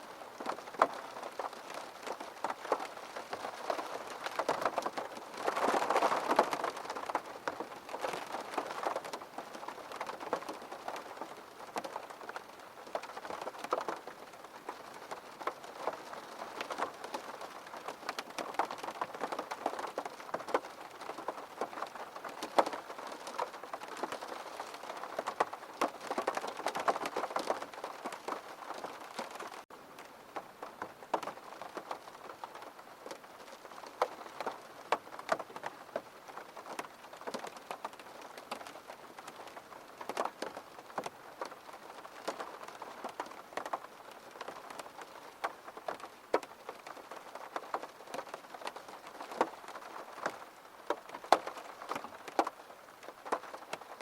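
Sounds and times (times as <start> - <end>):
rain drops tapping on a surface: 0.0 - 54.0.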